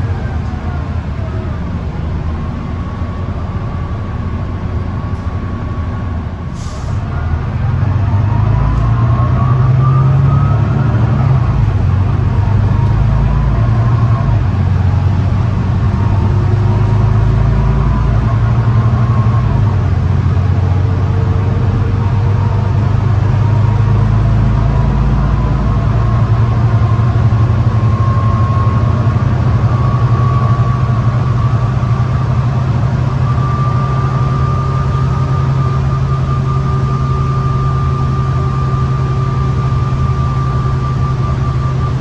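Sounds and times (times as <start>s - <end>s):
bus diesel engine droning: 0.0s - 42.0s
driveline whine: 0.0s - 42.0s.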